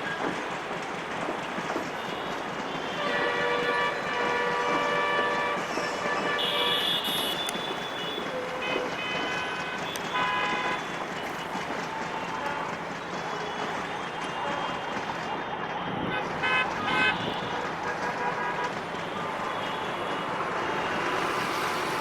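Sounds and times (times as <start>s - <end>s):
train rumbling: 0.0s - 22.0s
locomotive horn: 2.0s - 15.1s, 15.8s - 22.0s.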